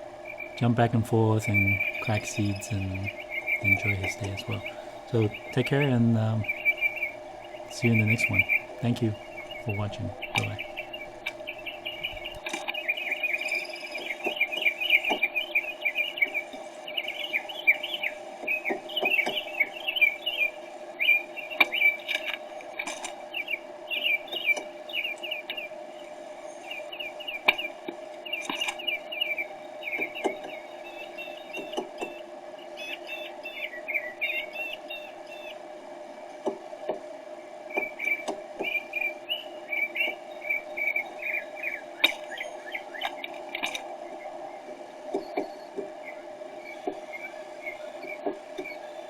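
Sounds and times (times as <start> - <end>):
small birds chirping: 0.0 - 49.0
steady low hum: 0.0 - 49.0.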